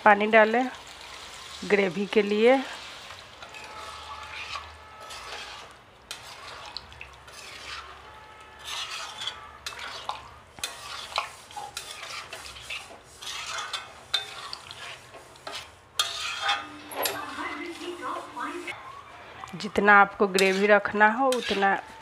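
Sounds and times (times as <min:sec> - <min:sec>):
spatula stirring and scraping food: 0:01.0 - 0:18.8, 0:20.1 - 0:22.0.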